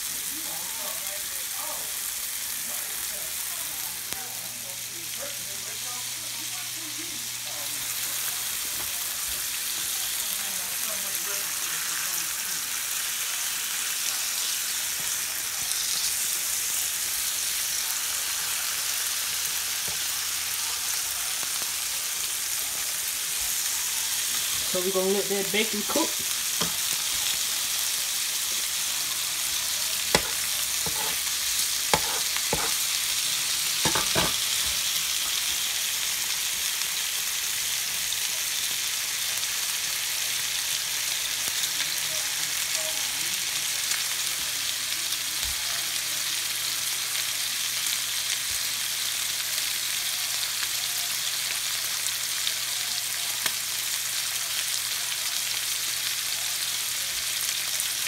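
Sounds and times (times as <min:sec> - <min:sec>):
bacon sizzling: 0:00.0 - 0:58.0.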